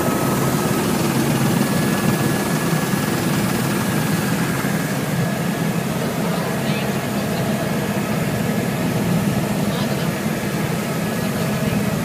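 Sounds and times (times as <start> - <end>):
helicopter engine and rotor: 0.0 - 12.0.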